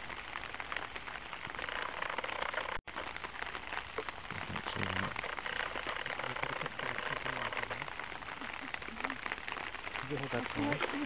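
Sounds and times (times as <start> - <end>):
light rain pattering: 0.0 - 11.0.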